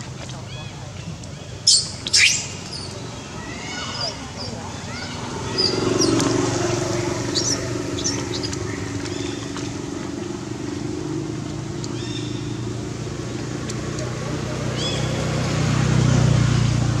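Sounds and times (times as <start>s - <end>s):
birds chirping: 0.0s - 15.7s
motor engine running: 2.5s - 17.0s.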